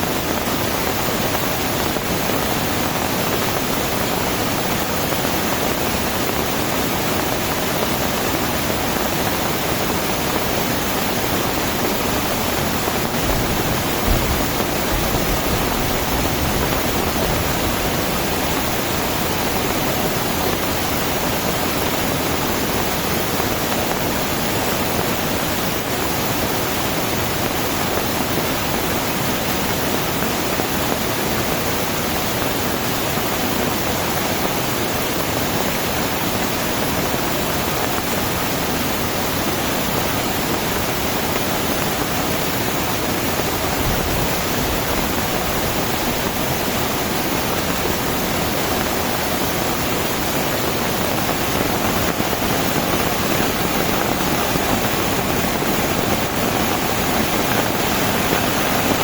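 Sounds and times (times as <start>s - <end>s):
heavy rain downpour: 0.0s - 59.0s.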